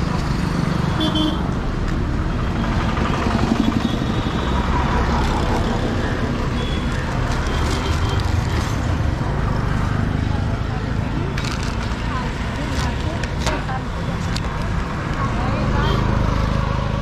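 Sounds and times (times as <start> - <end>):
constant low traffic rumble: 0.0 - 17.0
vehicle engines passing: 0.0 - 17.0.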